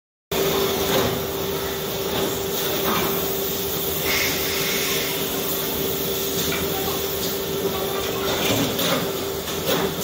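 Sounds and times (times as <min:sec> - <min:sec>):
die casting machine humming: 0:00.3 - 0:10.0.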